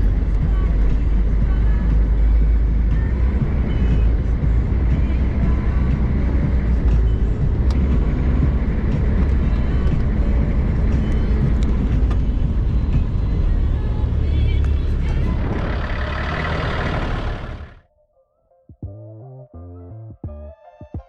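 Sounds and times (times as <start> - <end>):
off-road vehicle rumbling: 0.0 - 17.9.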